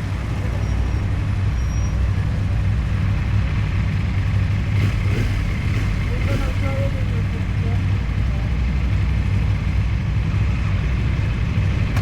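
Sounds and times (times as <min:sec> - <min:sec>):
motorcycle engine idling: 0:01.3 - 0:12.0.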